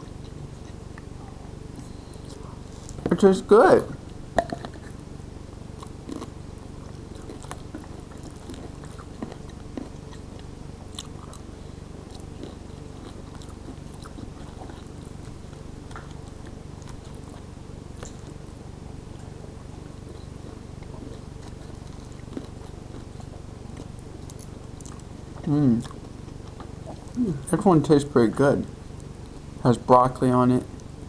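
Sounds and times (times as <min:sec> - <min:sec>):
person chewing food: 0:00.0 - 0:03.1, 0:04.0 - 0:05.1, 0:05.7 - 0:27.3
low hum: 0:00.0 - 0:31.0.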